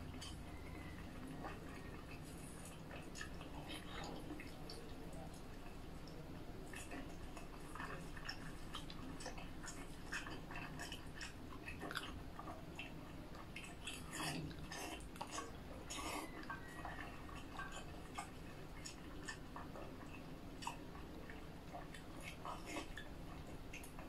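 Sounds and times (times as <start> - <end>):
person chewing wetly: 0.0 - 24.0.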